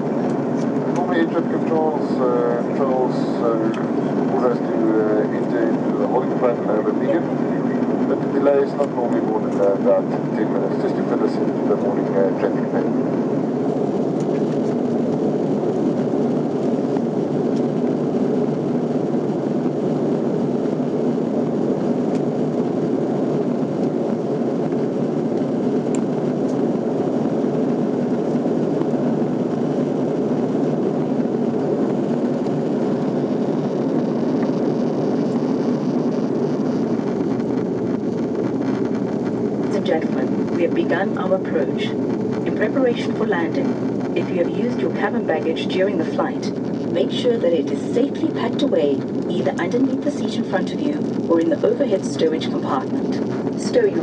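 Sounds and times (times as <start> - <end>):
airliner cabin engine hum: 0.0 - 54.0.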